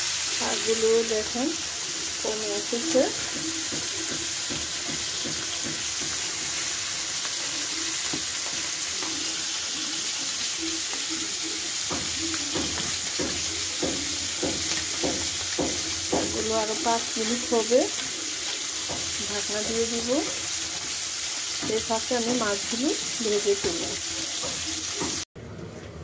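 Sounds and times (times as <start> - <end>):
food sizzling in a pan: 0.0 - 25.3.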